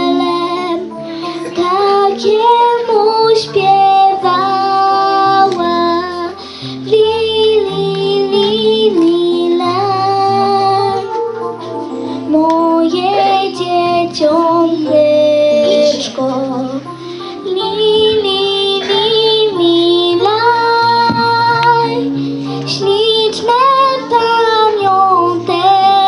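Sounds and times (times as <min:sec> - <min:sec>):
girl singing into a microphone: 0:00.0 - 0:26.0
instrumental accompaniment: 0:00.0 - 0:26.0.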